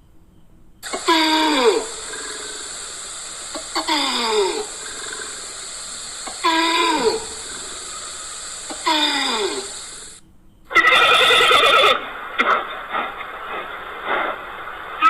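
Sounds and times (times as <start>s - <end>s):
quavering animal call: 0.8s - 13.1s.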